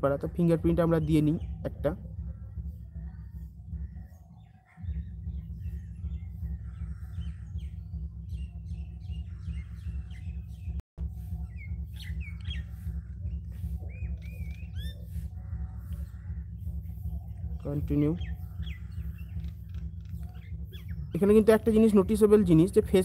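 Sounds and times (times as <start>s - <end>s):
birds chirping and calling: 0.0s - 23.0s
low background rumble: 0.0s - 23.0s.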